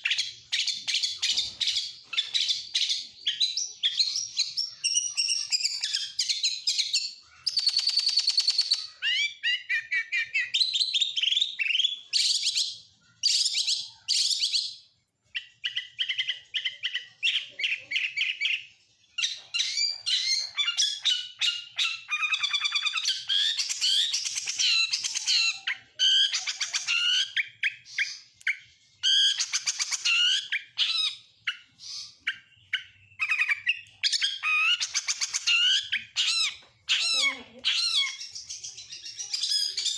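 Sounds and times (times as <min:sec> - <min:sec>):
bird singing whistles and trills: 0:00.0 - 0:14.8, 0:15.4 - 0:36.6.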